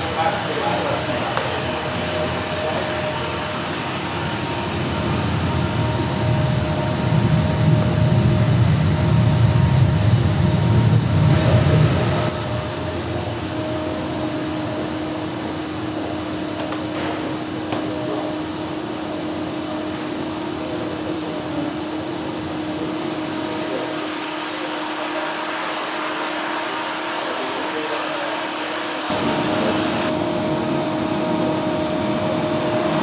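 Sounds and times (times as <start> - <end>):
model trains rumbling: 0.0 - 25.4, 27.6 - 33.0.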